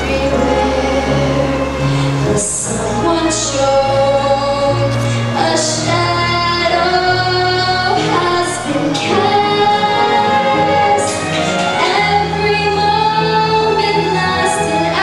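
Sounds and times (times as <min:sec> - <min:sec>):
instrumental accompaniment with bass: 0:00.0 - 0:15.0
woman singing: 0:00.0 - 0:15.0.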